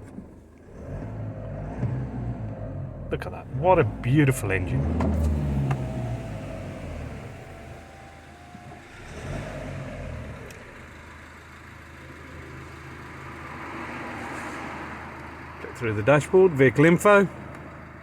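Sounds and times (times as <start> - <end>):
diesel engine idling: 2.4 - 18.0.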